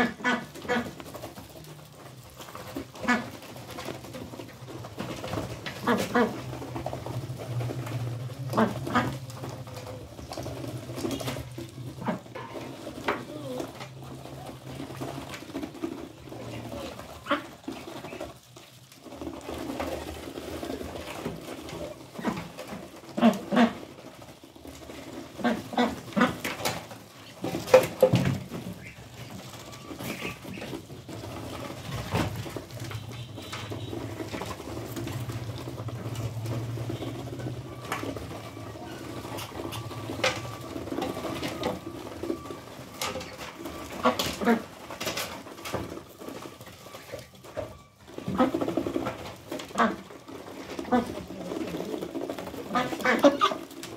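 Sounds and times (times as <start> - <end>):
duck bills clicking in feed: 0.0 - 53.9.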